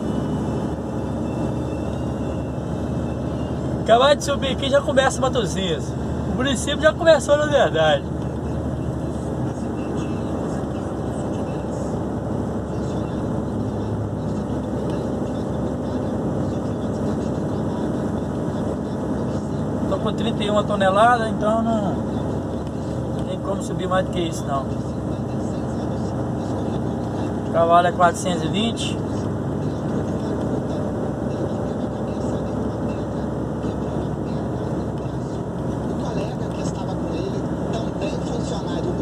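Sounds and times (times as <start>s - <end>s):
diesel truck engine under load: 0.0s - 39.0s
road noise: 0.0s - 39.0s.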